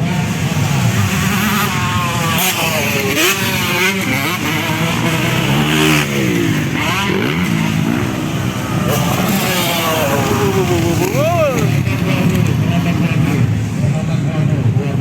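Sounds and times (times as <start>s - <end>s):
motocross bikes revving: 0.0s - 15.0s
motorbike passing close: 0.0s - 15.0s.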